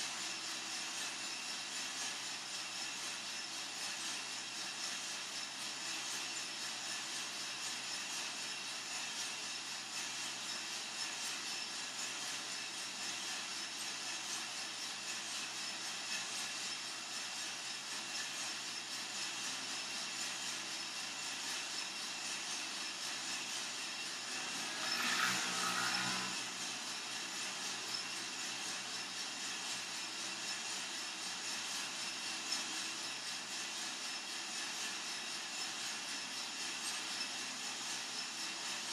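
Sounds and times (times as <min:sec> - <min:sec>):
coffee roaster hiss and hum: 0:00.0 - 0:38.9.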